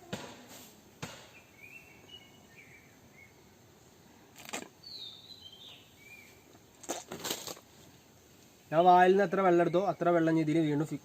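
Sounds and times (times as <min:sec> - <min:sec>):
wild birds chirping: 0:01.1 - 0:11.0.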